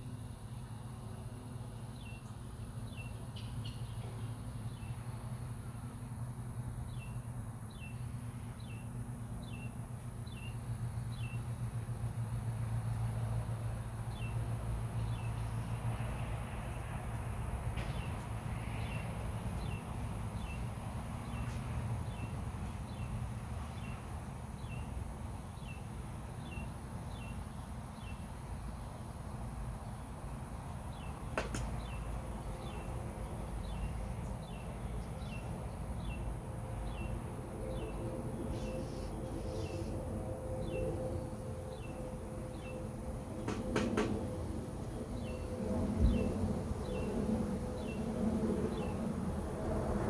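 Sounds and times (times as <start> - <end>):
low rumbling background noise: 0.0 - 50.0.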